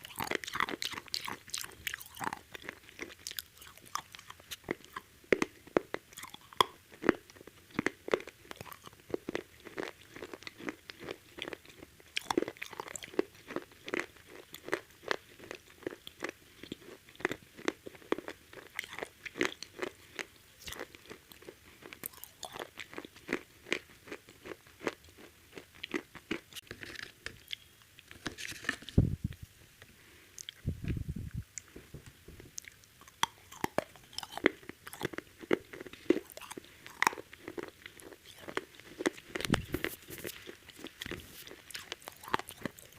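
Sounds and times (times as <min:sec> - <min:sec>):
crunchy fried chicken chewing: 0:00.0 - 0:29.0, 0:31.6 - 0:42.9.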